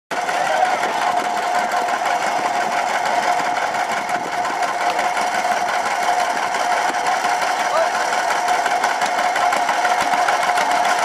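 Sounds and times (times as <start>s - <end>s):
grain thresher clattering: 0.1s - 11.0s
mechanical whine: 0.1s - 11.0s.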